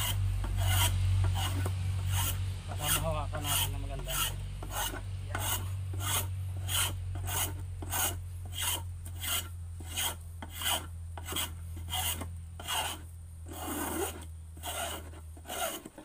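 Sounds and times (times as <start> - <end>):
low hum: 0.0 - 15.4
hand tool rasping on wood: 0.0 - 16.0.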